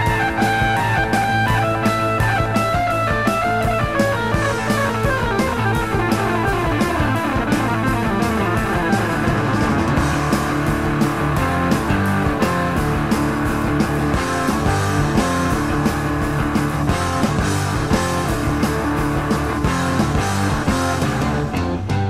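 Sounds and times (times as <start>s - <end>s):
drums: 0.0s - 22.0s
electric guitar: 0.0s - 22.0s.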